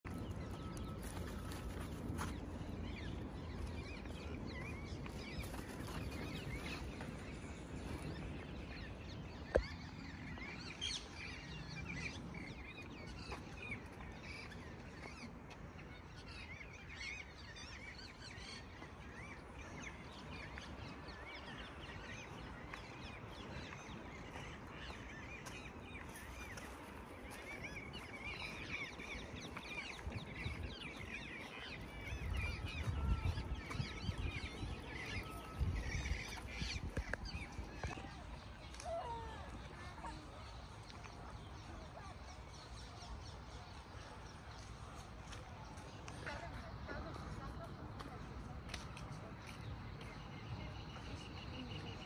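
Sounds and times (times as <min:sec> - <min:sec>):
birds chirping and twittering: 0:00.0 - 0:52.0.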